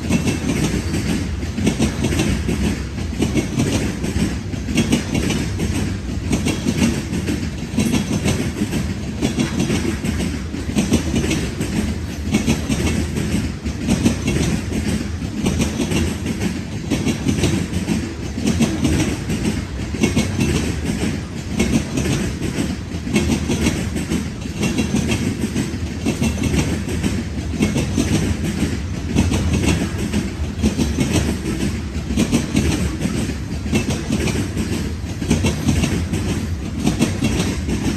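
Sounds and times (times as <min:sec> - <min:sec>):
freight train rumbling past: 0:00.0 - 0:37.9
wheels clicking over rail joints: 0:00.0 - 0:37.9.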